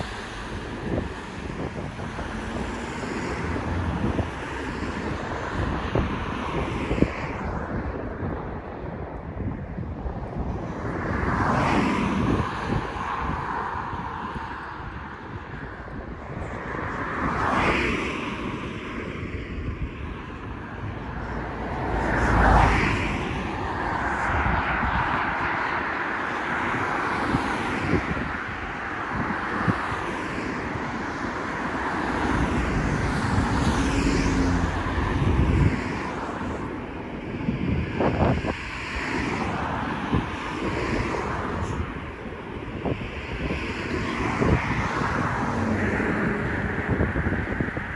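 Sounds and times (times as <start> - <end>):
cars passing: 0.0 - 47.9
wind buffeting microphone: 0.0 - 47.9.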